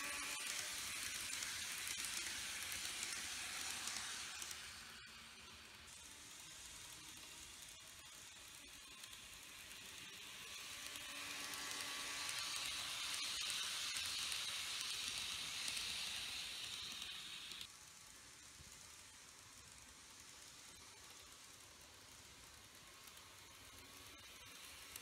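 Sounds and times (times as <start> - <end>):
model train running on track: 0.0 - 25.0.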